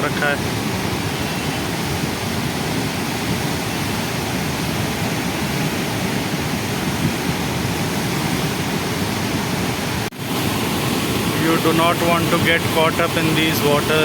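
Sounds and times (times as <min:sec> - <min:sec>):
loud rush of river water: 0:00.0 - 0:14.0.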